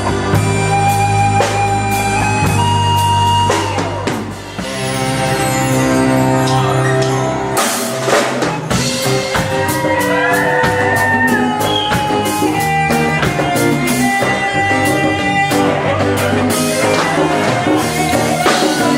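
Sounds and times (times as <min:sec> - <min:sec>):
drum kit: 0:00.0 - 0:18.9
guitar: 0:00.0 - 0:18.9
rock band music: 0:00.0 - 0:18.9.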